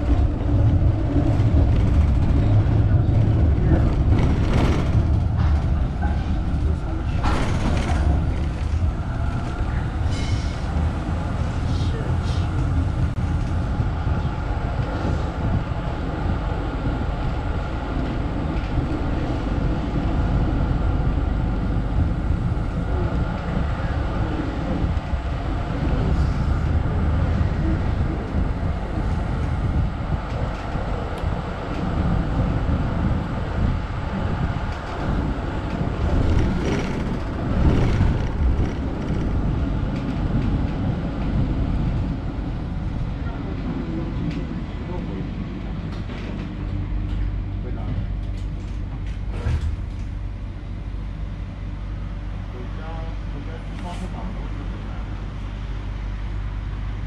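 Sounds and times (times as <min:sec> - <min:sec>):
tram clatter: 0:00.0 - 0:57.0
tram wheels rumbling on rails: 0:00.0 - 0:57.0.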